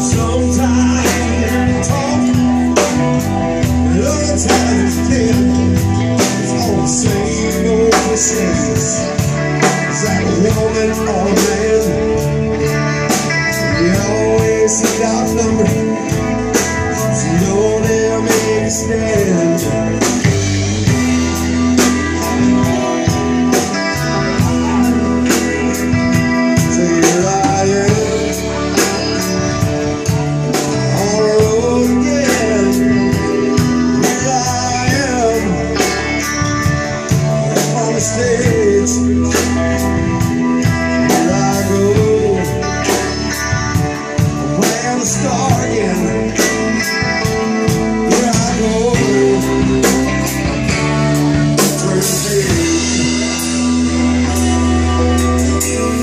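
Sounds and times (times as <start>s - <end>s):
drum kit beat: 0.0s - 56.0s
electric guitar: 0.0s - 56.0s
man singing: 0.0s - 56.0s.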